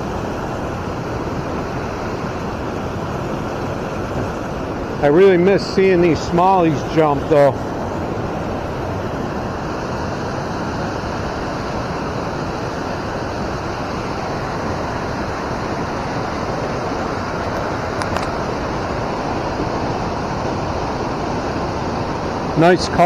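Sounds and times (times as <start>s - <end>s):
fast river current rushing: 0.0s - 23.0s.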